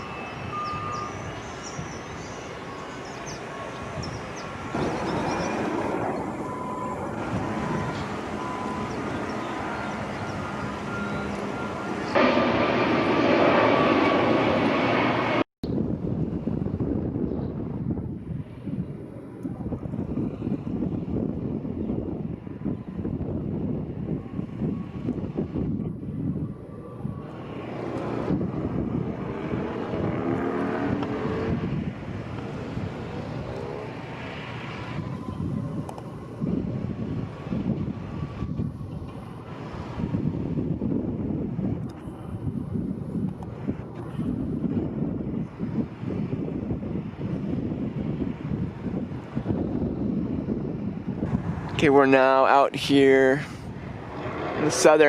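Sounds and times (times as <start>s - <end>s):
aircraft passing overhead: 0.0s - 15.4s, 17.5s - 55.0s
traffic noise: 0.0s - 16.6s, 17.6s - 55.0s
wind buffeting microphone: 0.0s - 55.0s.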